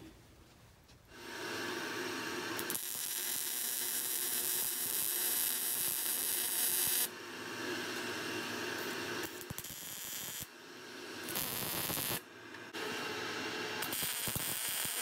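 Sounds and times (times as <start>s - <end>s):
arc welding crackling hiss: 1.1s - 12.2s, 13.8s - 15.0s.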